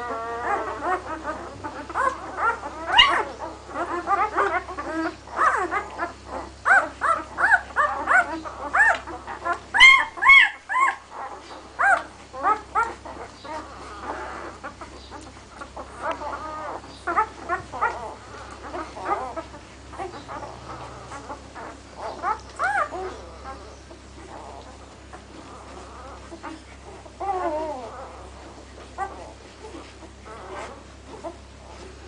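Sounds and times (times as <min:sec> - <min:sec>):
puppies squealing and whimpering: 0:00.0 - 0:32.0.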